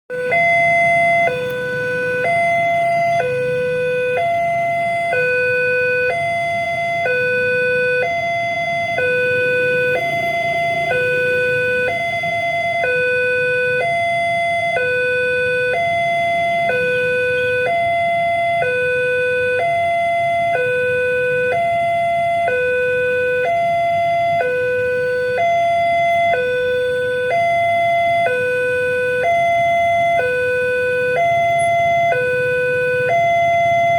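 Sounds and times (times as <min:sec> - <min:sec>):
level crossing two-tone alarm: 0:00.1 - 0:33.9.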